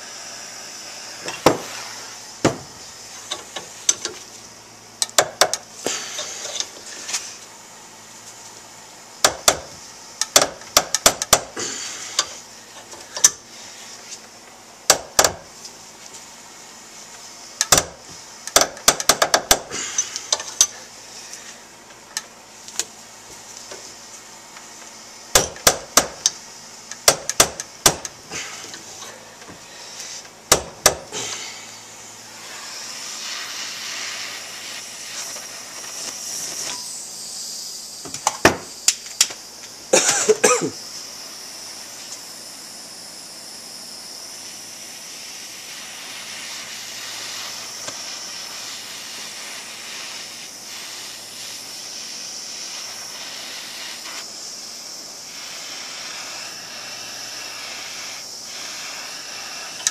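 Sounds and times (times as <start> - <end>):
propane torch hissing: 0.0 - 59.9.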